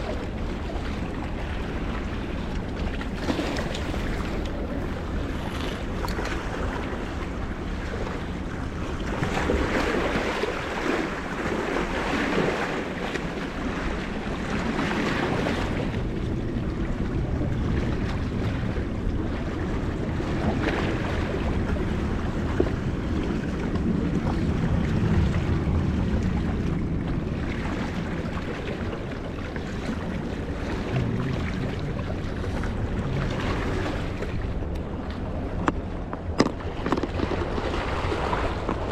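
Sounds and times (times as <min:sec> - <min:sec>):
waves washing against shore: 0:00.0 - 0:38.9
wind on microphone: 0:00.0 - 0:38.9.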